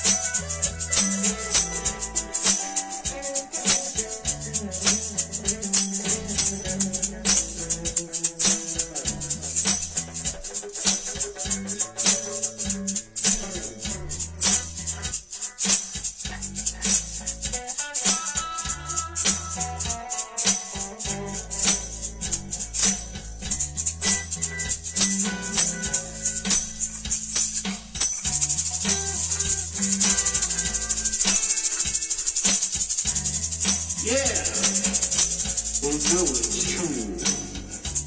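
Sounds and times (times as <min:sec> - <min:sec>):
live band music: 0:00.0 - 0:38.0
tambourine jingling: 0:00.0 - 0:38.0.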